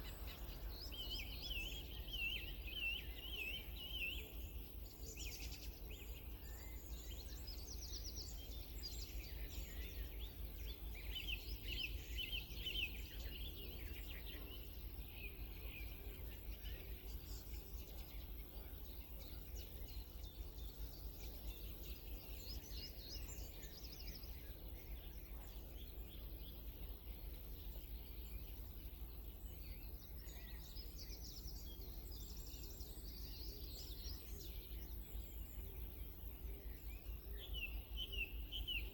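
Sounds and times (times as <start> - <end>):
small songbirds singing: 0.0 - 38.9.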